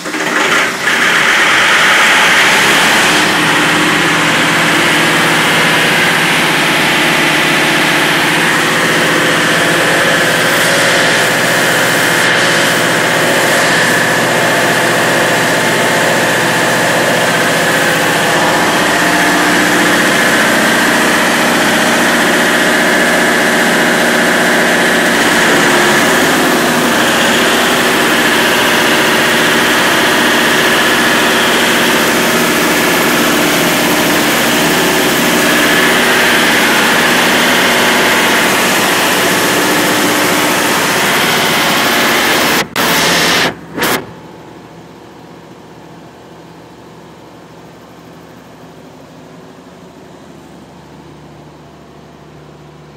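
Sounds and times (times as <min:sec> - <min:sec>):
air compressor running: 0:00.0 - 0:52.9.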